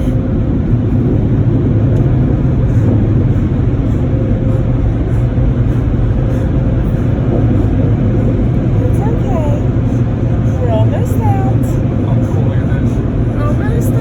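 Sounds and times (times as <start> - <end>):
car wash machinery rushing: 0.0 - 14.0
low hum: 0.0 - 14.0.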